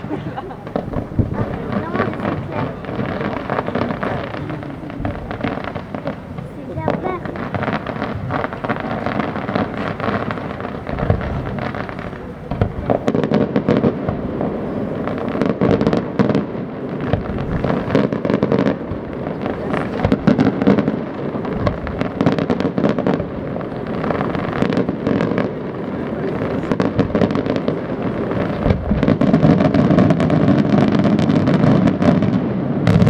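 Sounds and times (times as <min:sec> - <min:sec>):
firework cracks and crackles: 0:00.0 - 0:33.0
rumble of bursting firework shells: 0:00.0 - 0:33.0.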